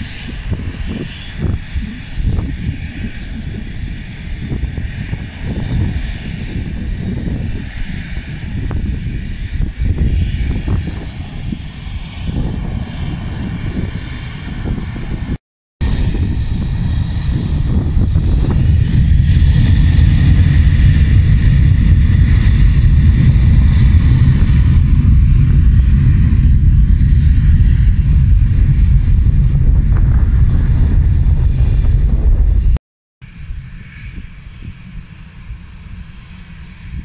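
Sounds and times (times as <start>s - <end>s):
faint engine whine: 0.0s - 37.0s
jet engines rumbling: 0.0s - 37.0s.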